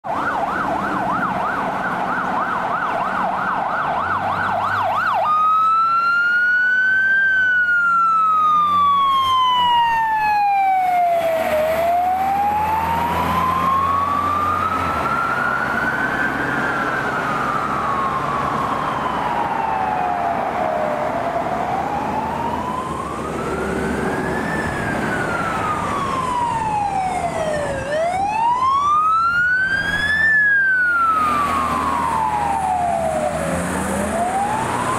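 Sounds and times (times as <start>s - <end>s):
fire truck siren: 0.0s - 34.9s.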